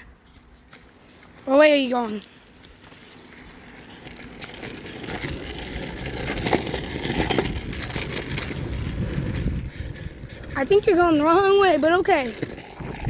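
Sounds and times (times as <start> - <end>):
bicycle tyres crunching over ground: 0.2 - 13.0.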